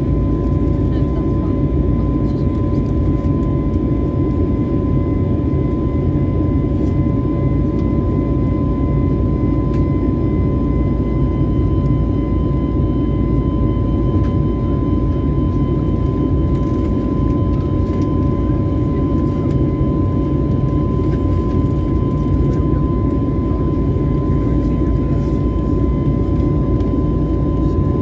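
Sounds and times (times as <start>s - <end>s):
airliner cabin engine and airflow noise: 0.0s - 28.0s.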